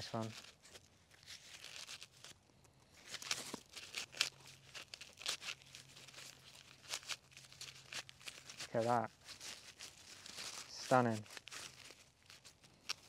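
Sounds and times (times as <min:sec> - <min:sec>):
corn husks rustling and tearing: 0:00.0 - 0:13.0.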